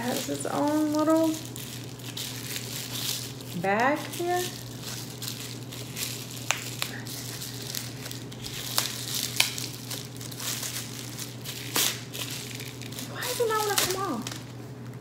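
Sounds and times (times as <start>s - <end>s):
plastic pouch crinkling: 0.0s - 14.9s.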